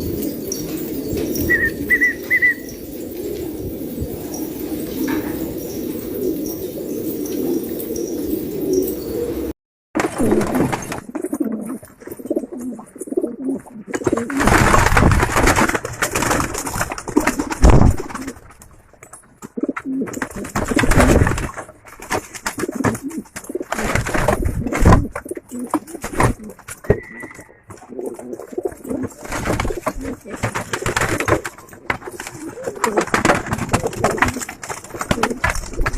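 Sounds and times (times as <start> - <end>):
pigeons cooing: 0.0 - 9.5, 10.2 - 14.6, 19.5 - 21.5, 22.1 - 35.9.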